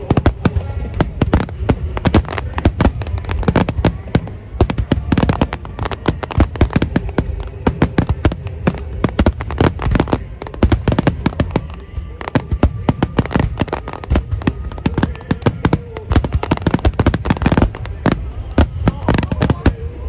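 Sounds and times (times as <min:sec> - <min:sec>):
fireworks cracking and booming: 0:00.0 - 0:20.0.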